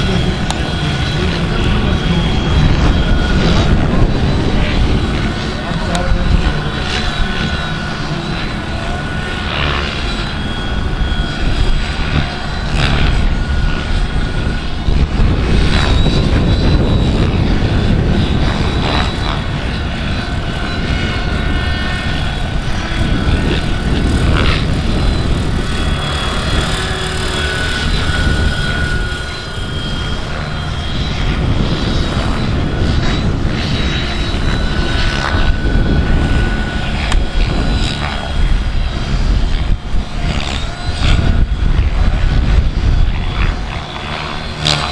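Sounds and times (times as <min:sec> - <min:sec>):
model helicopter whine and rotors: 0:00.0 - 0:44.9
wind buffeting microphone: 0:00.0 - 0:44.9.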